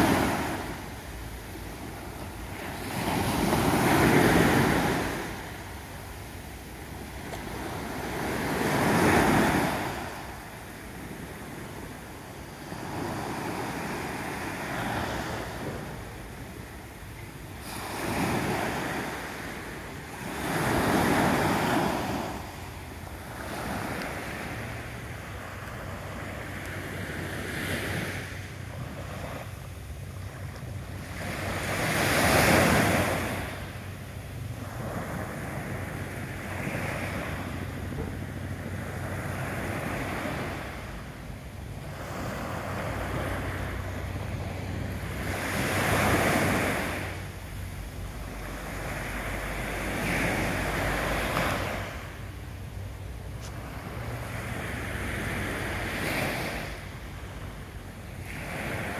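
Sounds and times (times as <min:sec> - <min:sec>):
small waves breaking on beach: 0:00.0 - 0:58.9.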